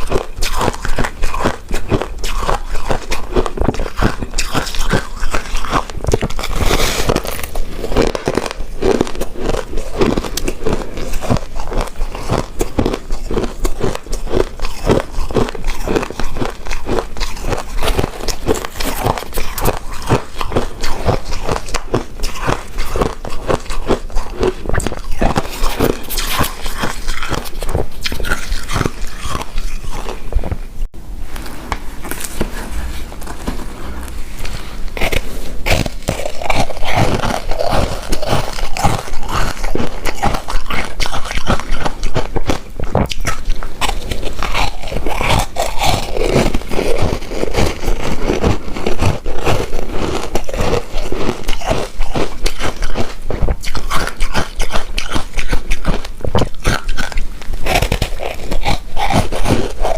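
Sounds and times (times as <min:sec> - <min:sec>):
chewing and biting: 0:00.0 - 0:30.7, 0:31.7 - 0:59.9.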